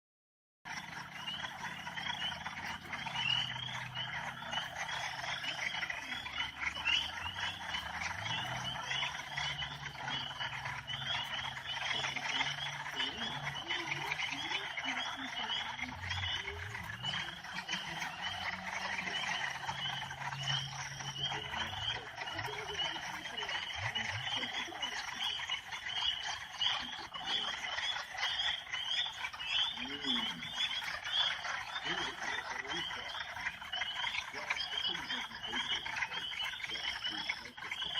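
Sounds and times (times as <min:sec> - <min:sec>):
spring peepers chorus: 0:00.7 - 0:37.9.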